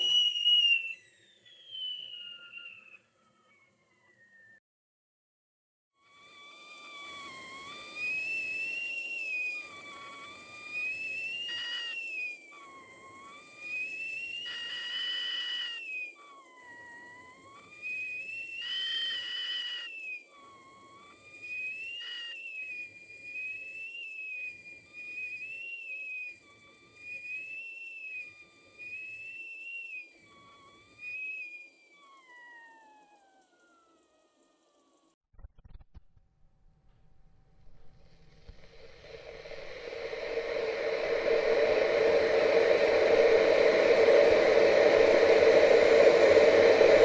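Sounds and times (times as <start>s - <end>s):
kettle whistling: 0.0s - 2.9s, 6.2s - 16.2s, 17.5s - 32.6s, 37.4s - 47.0s.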